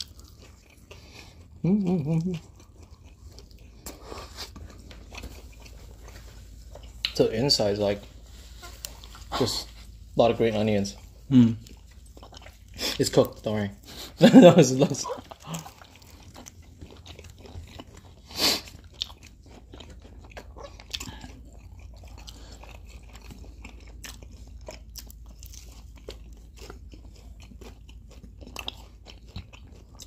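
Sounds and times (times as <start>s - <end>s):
chewing and crunching: 0.0s - 30.0s.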